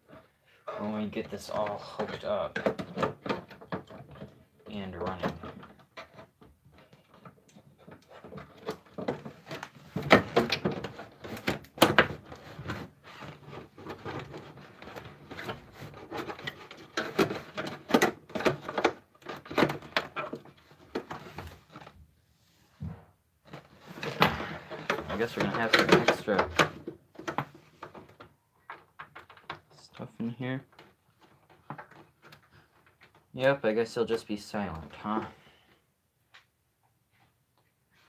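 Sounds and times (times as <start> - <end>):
clicks and knocks of hands working: 1.1 - 22.0, 23.4 - 34.2.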